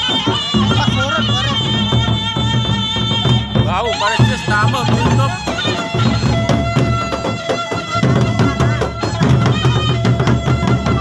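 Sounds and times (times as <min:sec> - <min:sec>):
large drums beating: 0:00.0 - 0:11.0
wavering held melody: 0:00.0 - 0:11.0.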